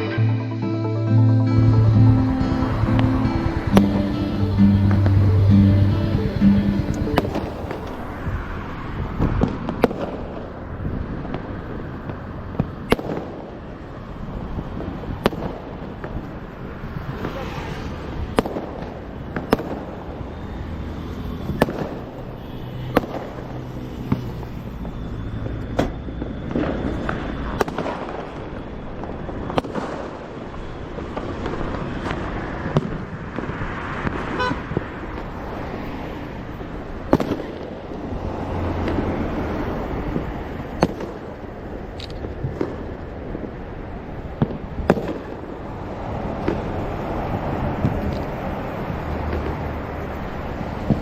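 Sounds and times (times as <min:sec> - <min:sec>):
road traffic noise: 0:00.0 - 0:51.0
firecrackers banging: 0:02.5 - 0:08.1, 0:08.9 - 0:17.4, 0:18.0 - 0:35.6, 0:36.6 - 0:47.0.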